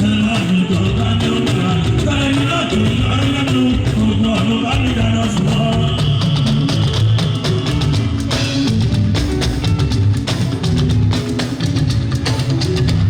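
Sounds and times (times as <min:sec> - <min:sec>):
busy steady drumming: 0:00.0 - 0:13.0
live band music: 0:00.0 - 0:13.0.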